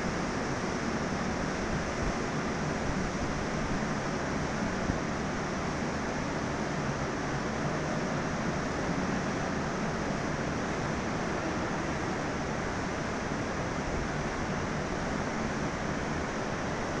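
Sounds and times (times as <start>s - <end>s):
railway station background rumble: 0.0s - 17.0s.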